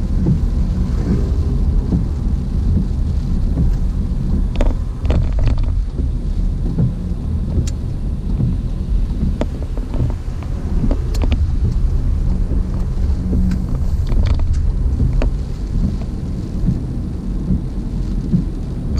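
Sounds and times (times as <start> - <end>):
car road and engine rumble: 0.0 - 18.9
rain tapping on car: 0.0 - 18.9.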